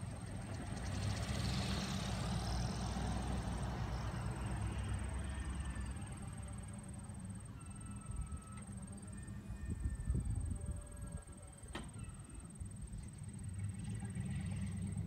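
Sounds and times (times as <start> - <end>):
truck engine and tyre noise: 0.0 - 15.0.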